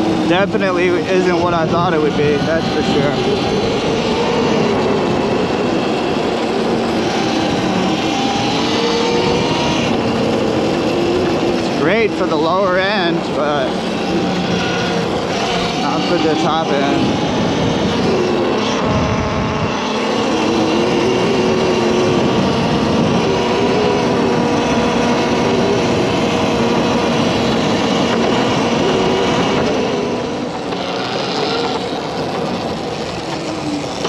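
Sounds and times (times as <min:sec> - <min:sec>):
electric motor whine: 0:00.0 - 0:34.0
wind noise: 0:00.0 - 0:34.0.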